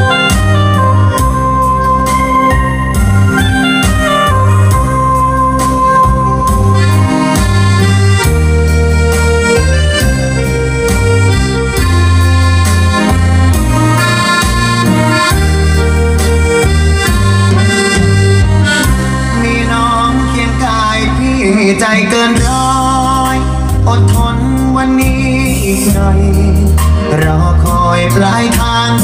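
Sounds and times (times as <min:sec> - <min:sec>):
song melody over heavy bass: 0:00.0 - 0:29.0.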